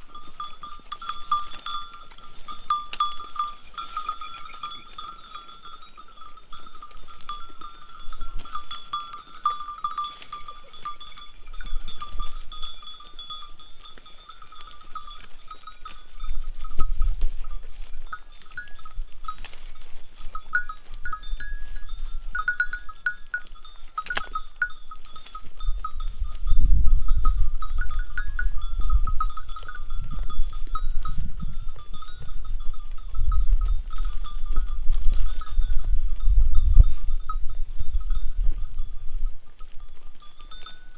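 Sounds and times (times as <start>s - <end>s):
animal bells clinking and ringing: 0.0s - 40.9s.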